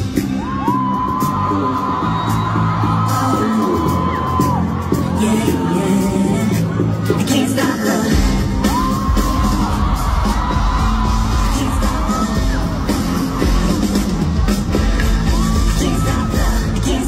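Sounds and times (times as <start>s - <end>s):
fans yelling and whooping: 0.0s - 17.0s
pop song at live concert: 0.0s - 17.0s.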